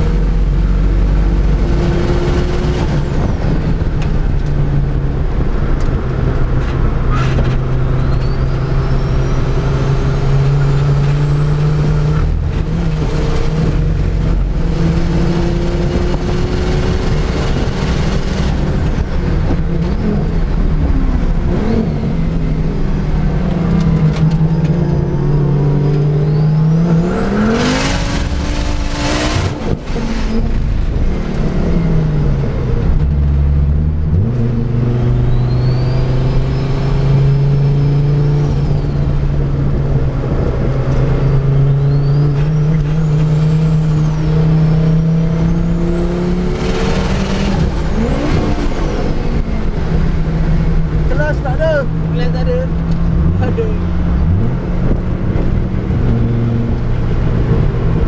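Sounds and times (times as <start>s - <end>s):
car engine revving: 0.0s - 58.0s
gear change: 0.0s - 58.0s.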